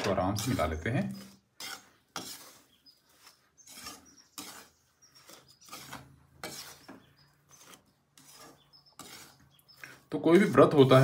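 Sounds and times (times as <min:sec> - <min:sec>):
metal spatula scraping steel pan: 0:00.0 - 0:11.0.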